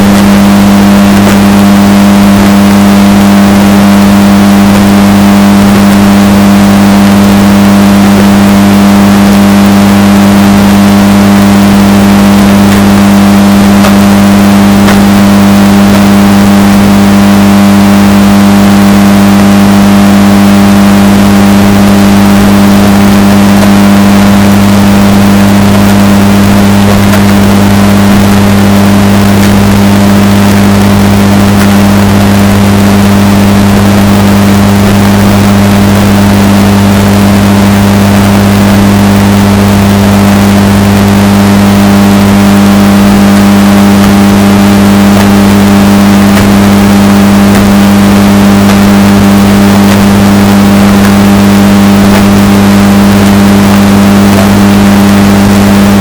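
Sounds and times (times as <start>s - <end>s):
washing machine droning hum: 0.0s - 56.0s.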